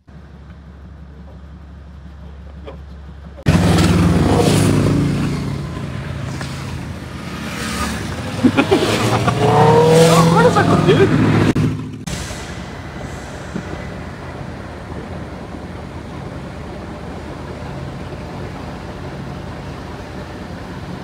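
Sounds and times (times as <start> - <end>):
ferry engine hum: 0.0 - 21.0
wind: 0.0 - 21.0.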